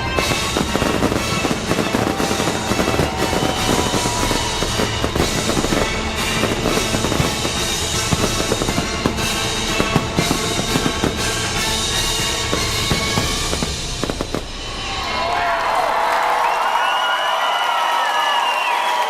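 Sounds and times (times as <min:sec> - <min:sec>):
fireworks bursting and crackling: 0:00.0 - 0:16.0
loud music: 0:00.0 - 0:16.0.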